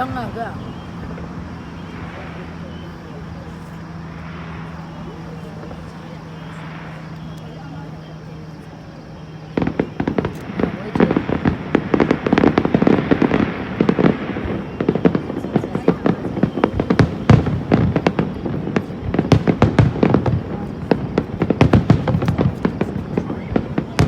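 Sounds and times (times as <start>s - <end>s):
fireworks cracks and bangs: 0.0s - 8.8s, 9.4s - 24.0s.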